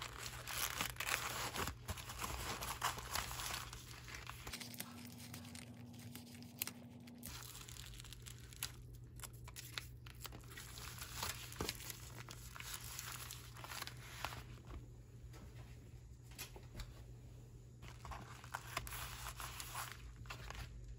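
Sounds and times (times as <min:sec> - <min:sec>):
plastic mailer crinkling: 0:00.0 - 0:14.6, 0:17.8 - 0:20.9.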